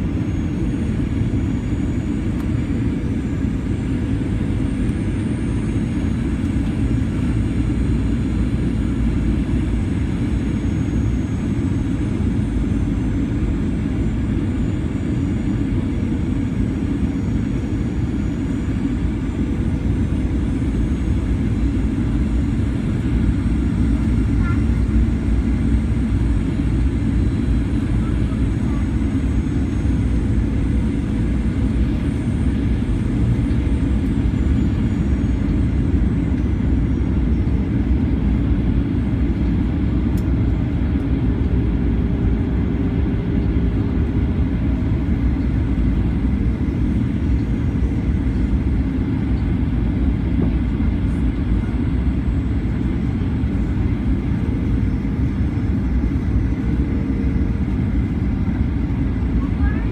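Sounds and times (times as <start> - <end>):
faint steady hums: 0.0 - 59.9
jet engines in cabin: 0.0 - 59.9.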